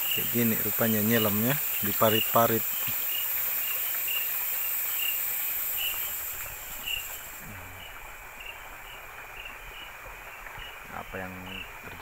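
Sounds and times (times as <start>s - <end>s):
cricket chirping: 0.0s - 12.0s
insects high-pitched drone: 0.0s - 12.0s.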